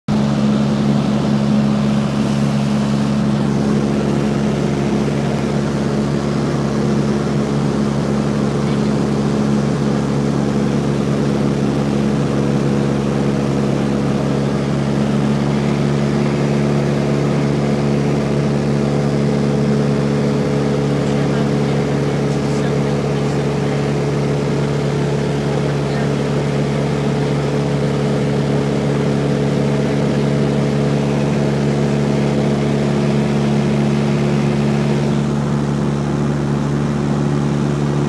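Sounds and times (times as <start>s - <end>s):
propeller plane engine drone: 0.0s - 38.0s.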